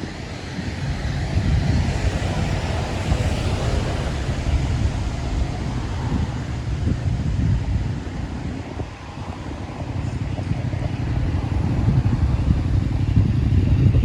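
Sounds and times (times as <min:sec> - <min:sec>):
vehicle passing on wet road: 0:00.0 - 0:13.8
traffic rumble: 0:00.0 - 0:14.0
wind on microphone: 0:00.0 - 0:14.0.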